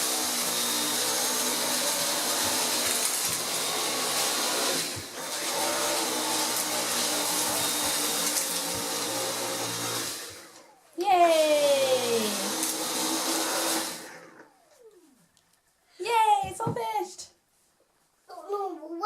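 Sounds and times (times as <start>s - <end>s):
vacuum cleaner running: 0.0s - 15.4s.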